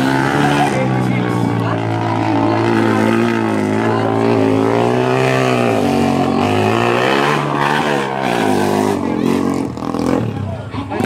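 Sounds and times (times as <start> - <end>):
motorcycle engine revving hard: 0.0 - 11.0.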